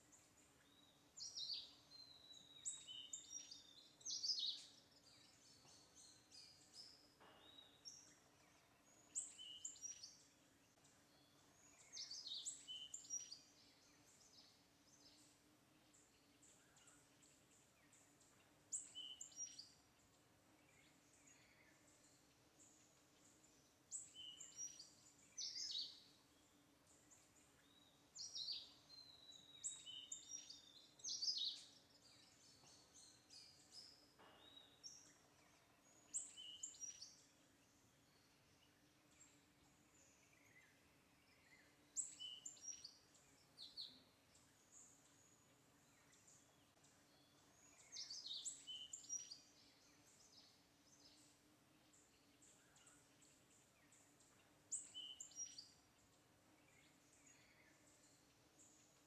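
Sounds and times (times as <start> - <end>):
faint low hum: 0.0 - 59.0
small birds chirping: 0.0 - 59.0.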